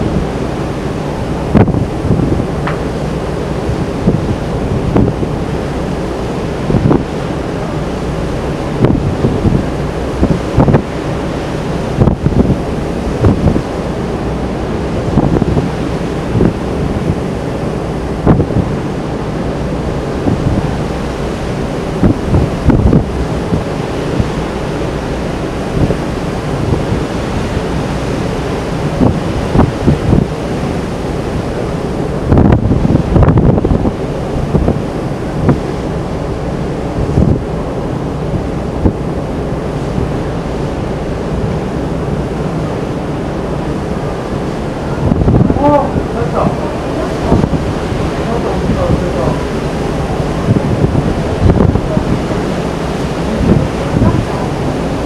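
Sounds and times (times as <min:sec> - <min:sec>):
rush of wind and sea: 0:00.0 - 0:55.0
wind buffeting microphone: 0:00.0 - 0:55.0.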